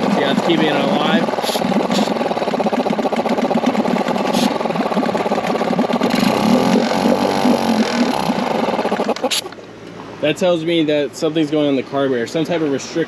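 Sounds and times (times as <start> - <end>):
outboard engine running unevenly: 0.0 - 13.0.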